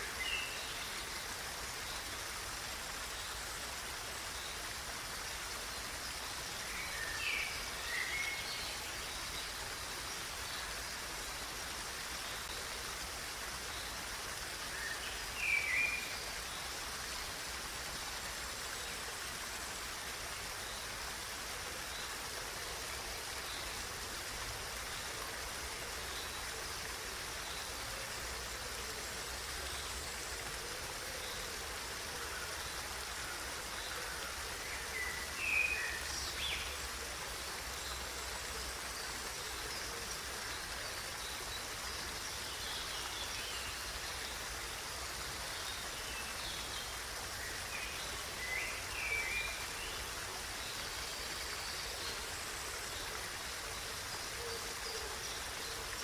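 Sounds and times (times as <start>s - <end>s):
running water flowing: 0.0s - 56.0s.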